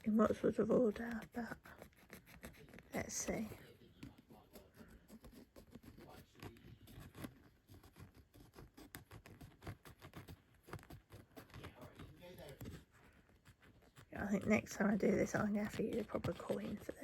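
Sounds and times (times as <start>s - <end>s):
fingernail scratching scratch card: 0.0s - 17.0s.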